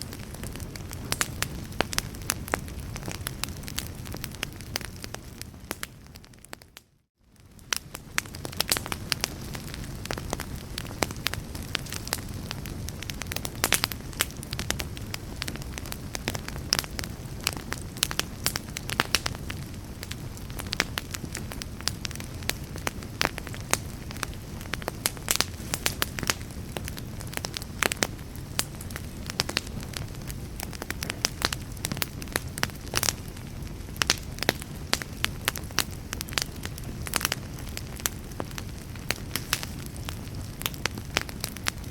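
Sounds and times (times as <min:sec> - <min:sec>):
fire crackling: 0:00.0 - 0:41.9.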